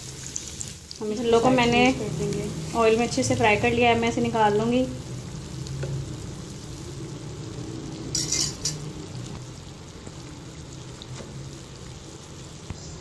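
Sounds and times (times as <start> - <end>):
fritters sizzling in hot oil: 0.0 - 13.0.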